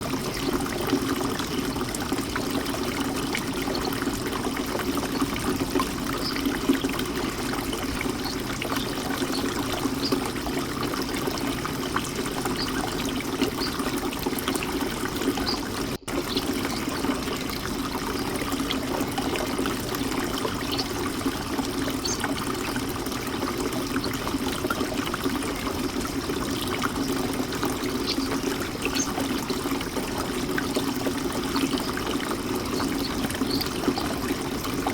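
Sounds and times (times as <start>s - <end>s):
fountain water splashing: 0.0s - 34.9s.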